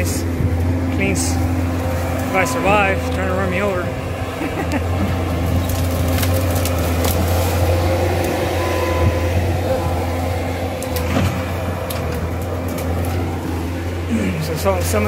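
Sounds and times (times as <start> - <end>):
branches snapping and crackling: 0.0 - 15.0
loader engine running: 0.0 - 15.0.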